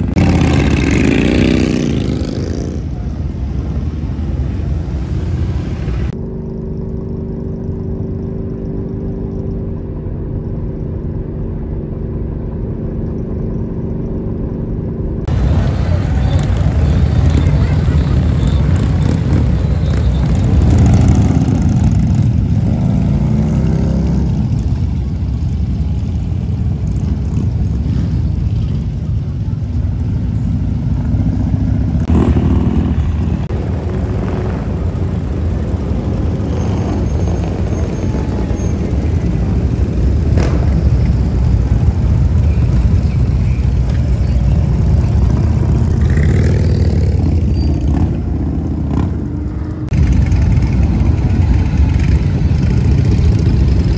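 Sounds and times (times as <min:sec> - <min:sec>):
motorcycle engines rumbling: 0:00.0 - 0:53.9
motorcycles revving: 0:00.0 - 0:53.9.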